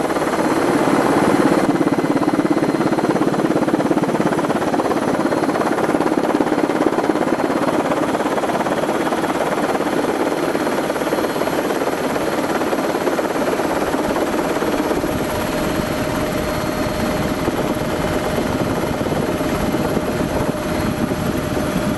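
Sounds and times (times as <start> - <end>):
aircraft engine and airflow noise: 0.0 - 21.9.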